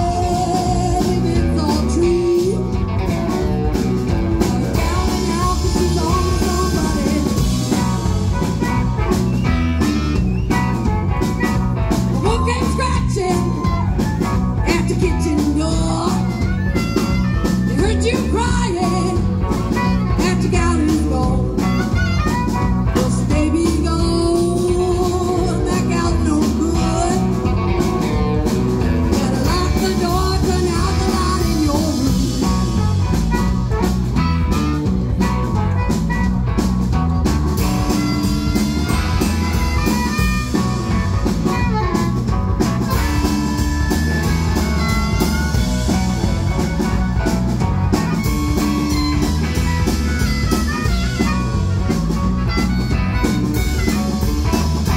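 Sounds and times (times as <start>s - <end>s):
blues harmonica: 0.0s - 54.9s
drum kit: 0.0s - 54.9s
electric bass: 0.0s - 54.9s
electric guitar: 0.0s - 54.9s.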